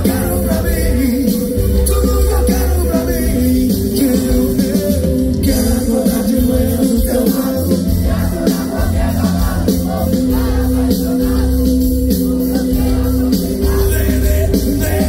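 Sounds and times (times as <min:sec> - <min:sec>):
man singing into a microphone: 0:00.0 - 0:10.4, 0:11.0 - 0:15.0
live band music: 0:00.0 - 0:15.0.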